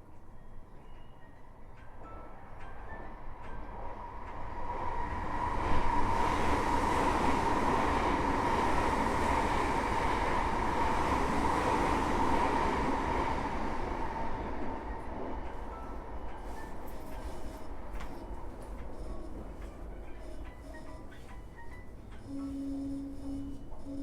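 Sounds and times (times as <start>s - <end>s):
train wheels on rail whining: 0.7s - 24.0s.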